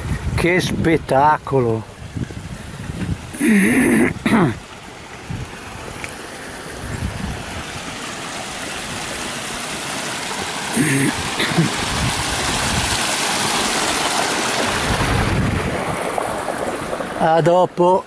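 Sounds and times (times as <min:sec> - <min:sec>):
stream splashing over rocks: 0:01.1 - 0:18.0.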